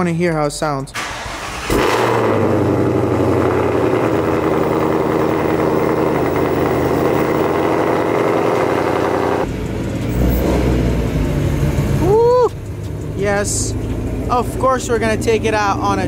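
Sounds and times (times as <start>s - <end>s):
car engine idling: 0.8s - 16.0s.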